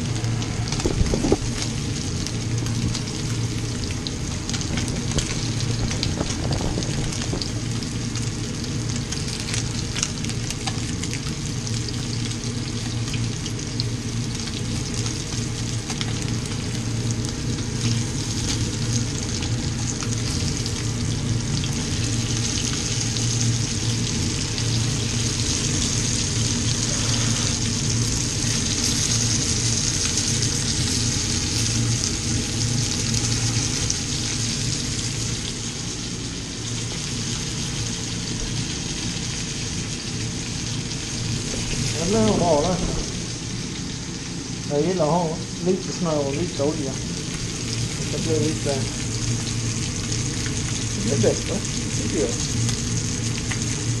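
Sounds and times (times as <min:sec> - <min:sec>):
low hum: 0:00.0 - 0:50.9
fish frying in pan: 0:00.0 - 0:54.0.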